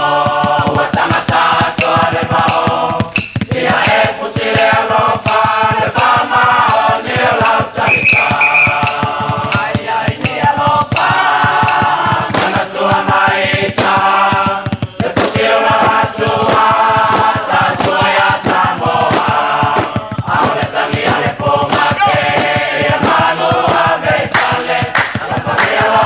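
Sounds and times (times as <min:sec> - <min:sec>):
choir singing in parts: 0:00.0 - 0:26.0.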